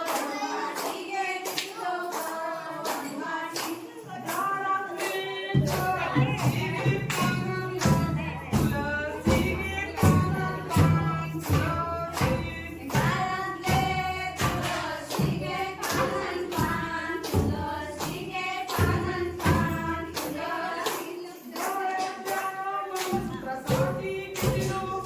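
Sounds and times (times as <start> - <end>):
rhythmic clapping: 0.0 - 25.0
voices singing folk song: 0.0 - 25.0.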